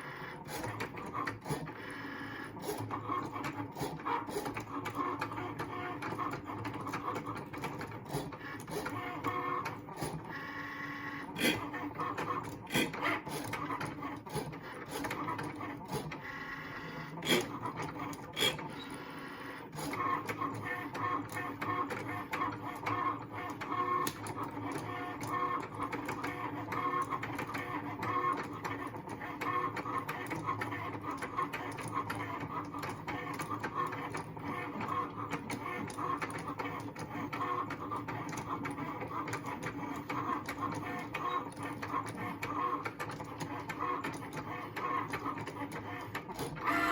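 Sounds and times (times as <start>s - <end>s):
cutting machine motors whining: 0.0s - 46.9s
machine grinding noise: 0.0s - 46.9s.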